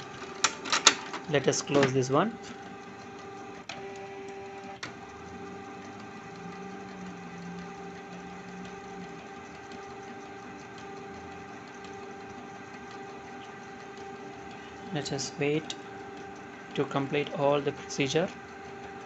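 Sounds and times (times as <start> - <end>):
printer motor whirring: 0.0 - 19.0
sharp printer clicks: 0.0 - 19.0.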